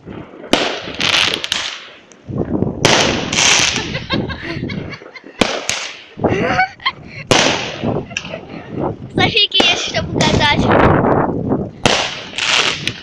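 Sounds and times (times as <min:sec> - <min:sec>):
fireworks banging: 0:00.0 - 0:06.2, 0:06.9 - 0:13.0
fireworks crackling: 0:00.0 - 0:06.2, 0:07.2 - 0:13.0.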